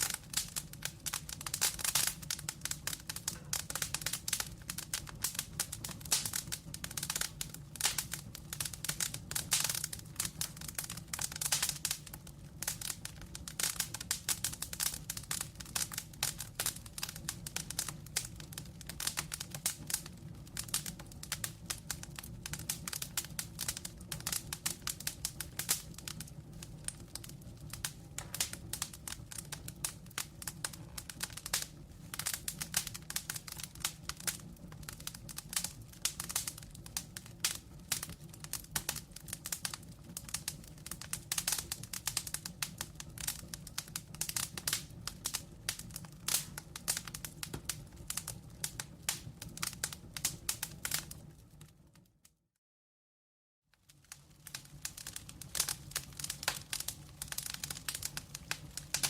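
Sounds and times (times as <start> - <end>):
logs crackling in a fireplace: 0.0 - 52.3, 53.7 - 59.0.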